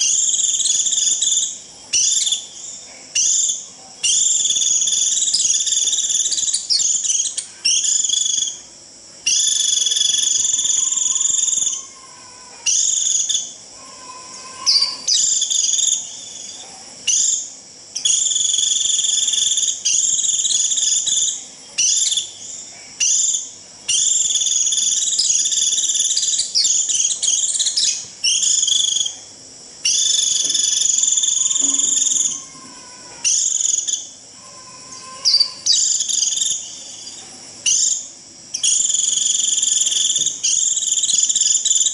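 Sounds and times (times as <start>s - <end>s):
bird shrill buzzy calls: 0.0s - 8.7s, 9.3s - 41.9s.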